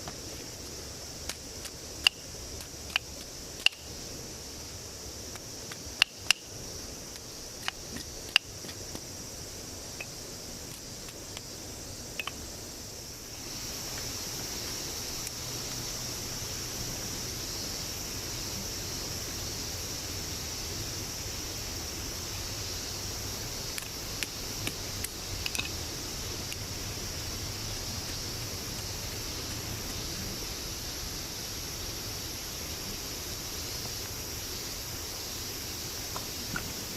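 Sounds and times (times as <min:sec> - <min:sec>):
steady high hiss: 0:00.0 - 0:36.9.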